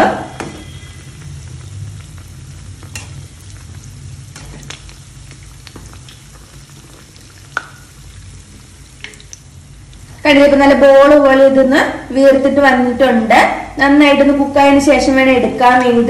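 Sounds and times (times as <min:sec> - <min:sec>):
fritters sizzling in hot oil: 0:00.0 - 0:16.0.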